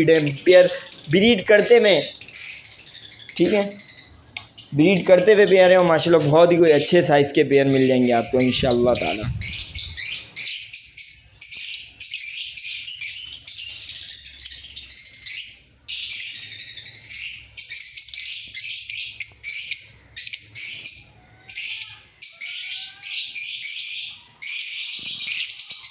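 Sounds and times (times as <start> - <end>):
lovebirds chirping: 0.0 - 25.9.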